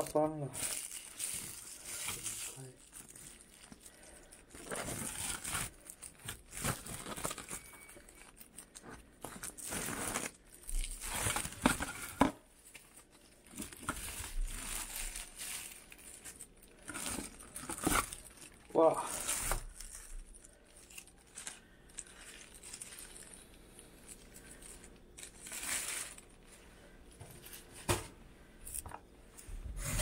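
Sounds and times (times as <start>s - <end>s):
plastic bag crinkling: 0.0s - 27.9s.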